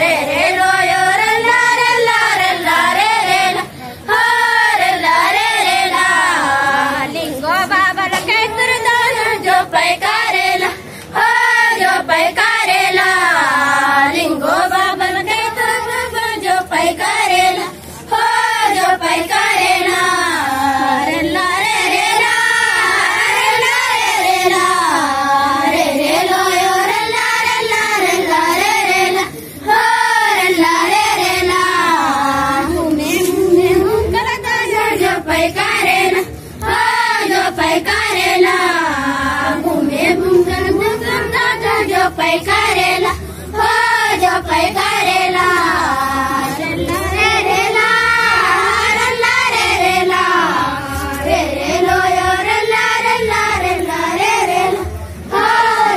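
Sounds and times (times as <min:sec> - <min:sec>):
girls singing together: 0:00.0 - 0:55.9.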